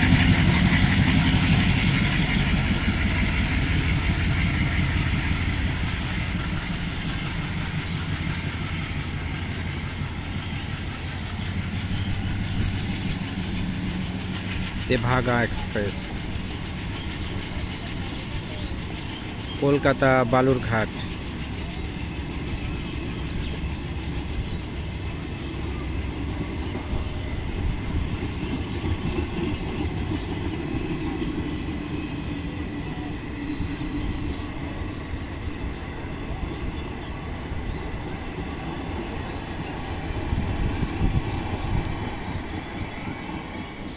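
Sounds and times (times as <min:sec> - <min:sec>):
diesel locomotive engine rumble: 0:00.0 - 0:43.9
wheels rattling over rails: 0:00.0 - 0:43.9.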